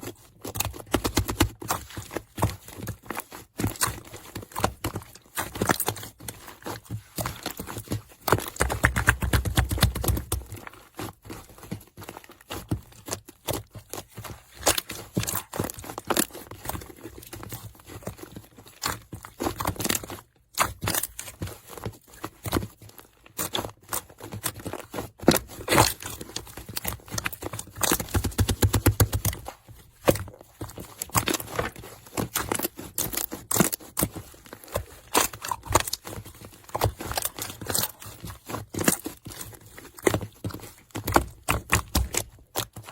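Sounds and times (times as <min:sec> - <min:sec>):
slime squished by hand: 0:00.0 - 0:42.9.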